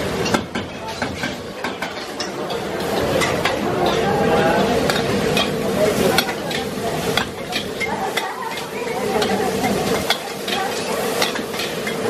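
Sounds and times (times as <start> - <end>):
metal ladle scraping a wok: 0.0 - 12.0
shrimp sizzling in a wok: 0.0 - 12.0.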